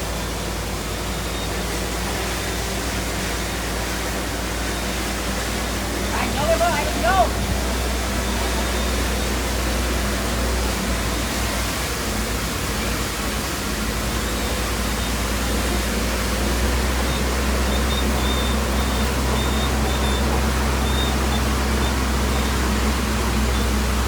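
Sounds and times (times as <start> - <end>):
heavy machinery engine rumble: 0.0 - 24.0.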